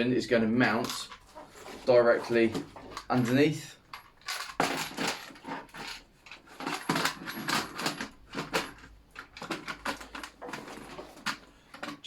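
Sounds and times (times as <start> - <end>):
hard plastic clattering and knocking: 0.6 - 12.0.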